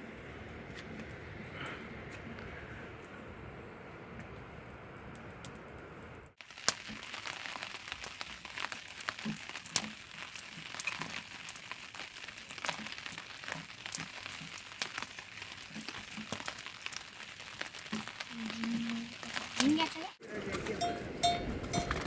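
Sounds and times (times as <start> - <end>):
steady rain hiss: 0.0 - 22.0
raindrops pattering on surface: 4.1 - 22.0.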